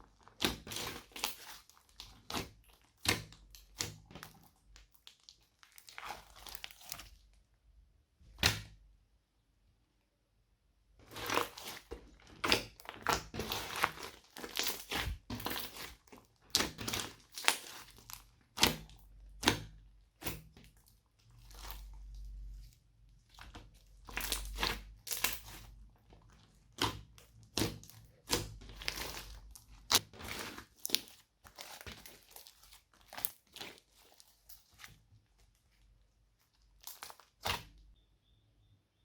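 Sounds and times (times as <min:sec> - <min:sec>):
sticky slime crackles and pops: 0:00.2 - 0:07.4, 0:11.0 - 0:35.1, 0:36.4 - 0:37.8.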